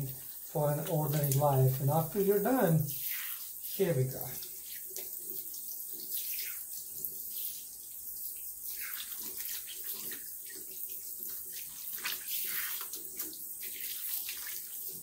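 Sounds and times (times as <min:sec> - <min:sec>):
water running from faucet: 0:00.0 - 0:15.0.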